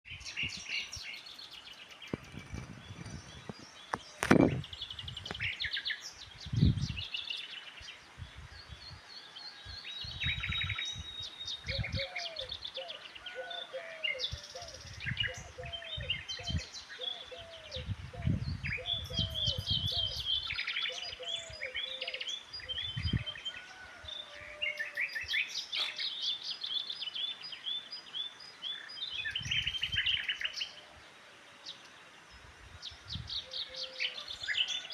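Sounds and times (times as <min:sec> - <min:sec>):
birds singing and chirping: 0:00.1 - 0:34.9.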